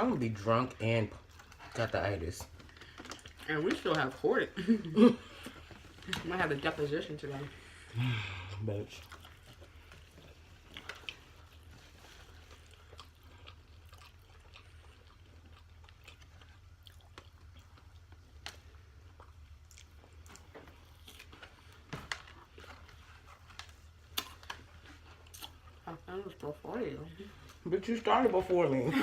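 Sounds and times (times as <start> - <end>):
chewing with small crunches: 0.0 - 28.7.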